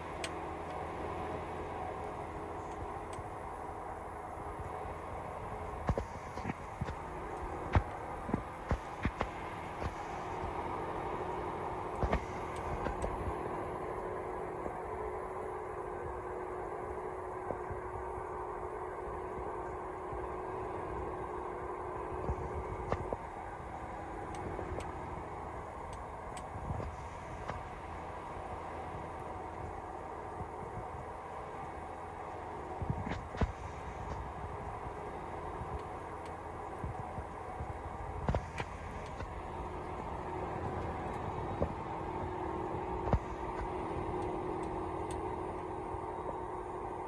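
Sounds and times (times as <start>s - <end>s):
hum: 0.0s - 47.0s
tractor engine running: 0.0s - 47.0s.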